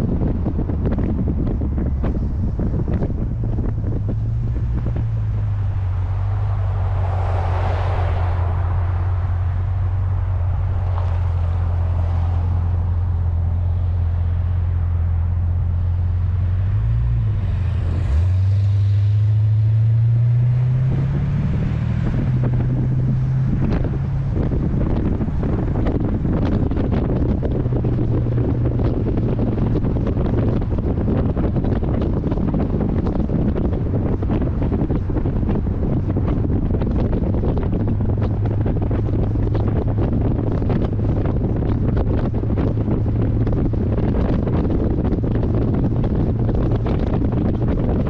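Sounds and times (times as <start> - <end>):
car engine accelerating: 0.0 - 48.0
wind noise on microphone: 0.0 - 48.0.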